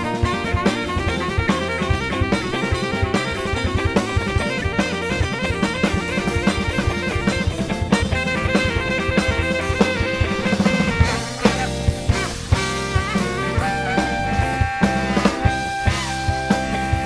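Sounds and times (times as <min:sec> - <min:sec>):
drum kit groove: 0:00.0 - 0:17.0
live instrumental band music: 0:00.0 - 0:17.0
saxophone: 0:00.0 - 0:17.0.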